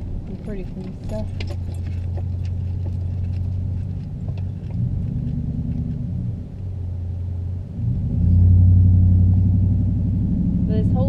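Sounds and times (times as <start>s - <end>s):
car cabin engine and road rumble: 0.0s - 11.0s.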